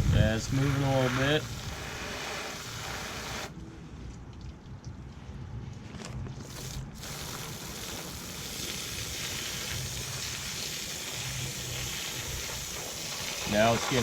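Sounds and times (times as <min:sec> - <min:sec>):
garden hose spraying water: 0:00.0 - 0:03.6, 0:06.3 - 0:14.0.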